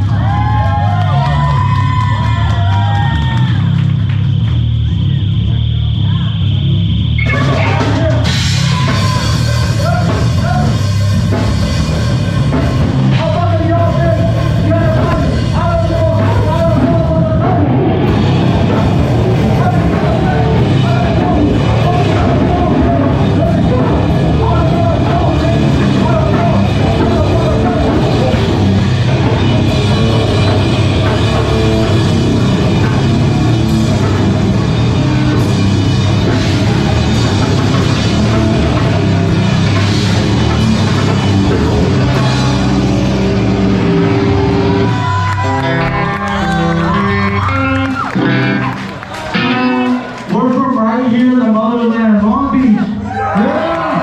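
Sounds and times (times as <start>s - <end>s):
live heavy rock band: 0.0s - 51.9s.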